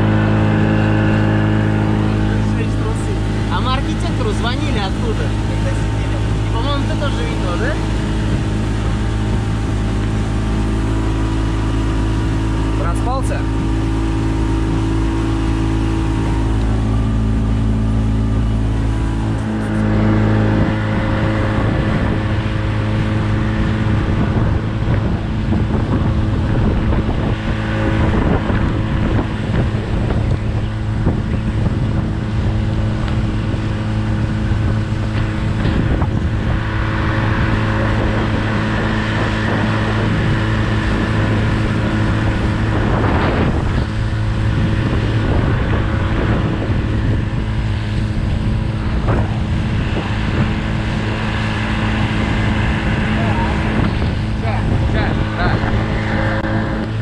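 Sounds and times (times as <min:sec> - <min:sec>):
outboard motor running: 0:00.0 - 0:57.0
rushing water: 0:00.0 - 0:57.0
wind on microphone: 0:00.0 - 0:57.0.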